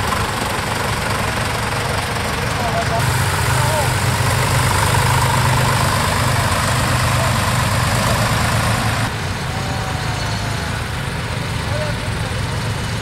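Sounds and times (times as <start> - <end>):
tractor diesel engine passing: 0.0 - 13.0.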